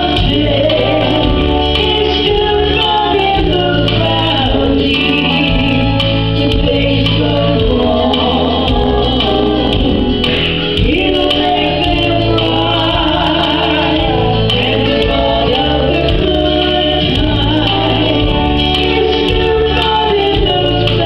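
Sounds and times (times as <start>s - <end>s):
instrumental accompaniment: 0.0s - 21.0s
woman singing gospel through loudspeaker: 0.0s - 21.0s.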